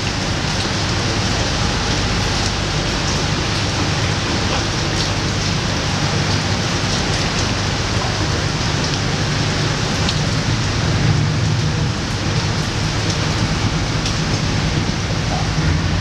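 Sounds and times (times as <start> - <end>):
boat engine drone: 0.0 - 16.0
rain on deck and awning: 0.0 - 16.0.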